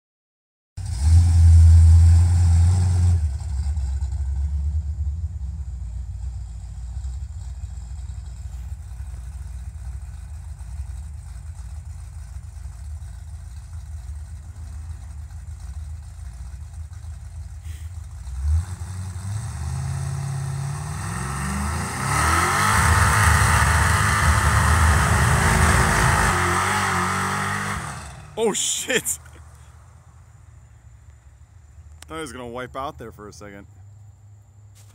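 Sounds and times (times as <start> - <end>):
car engine revving: 0.8 - 29.8.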